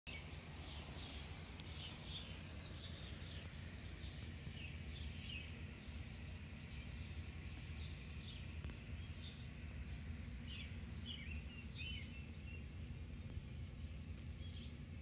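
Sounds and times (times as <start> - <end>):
low background rumble: 0.1 - 15.0
songbirds chirping: 0.1 - 15.0.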